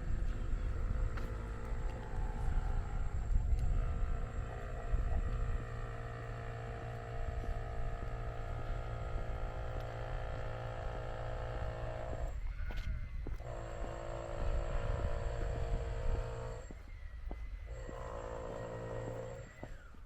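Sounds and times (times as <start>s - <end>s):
motor engine humming: 0.0s - 20.0s
wind rumbling on microphone: 0.0s - 20.0s.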